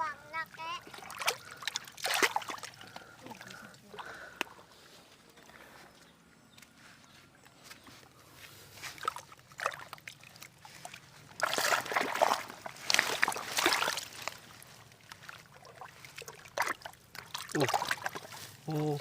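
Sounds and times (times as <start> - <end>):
water splashing and sloshing: 0.0 - 5.7, 7.9 - 19.0.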